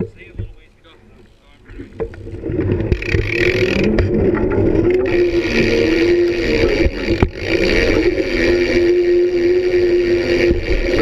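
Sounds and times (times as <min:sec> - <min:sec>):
wavering whirring hum: 0:00.0 - 0:11.0
bike tyre rumble on concrete: 0:01.3 - 0:11.0.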